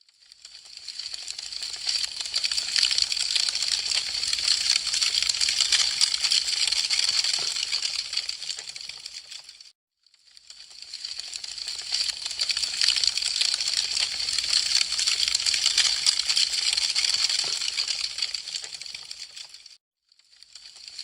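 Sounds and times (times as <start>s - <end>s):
wood fire crackling: 0.2s - 9.7s, 10.4s - 19.8s.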